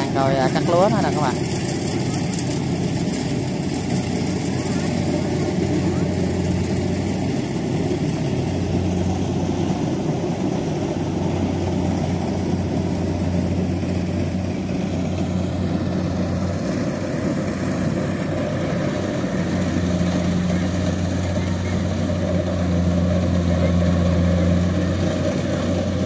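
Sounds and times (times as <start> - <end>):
combine harvester diesel engine hum: 0.0 - 26.0.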